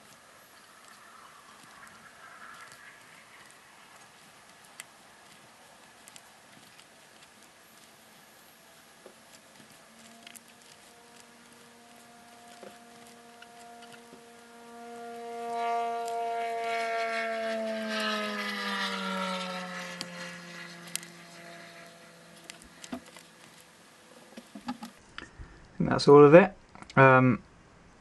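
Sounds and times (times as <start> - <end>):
engine drone passing by: 0.0 - 25.8.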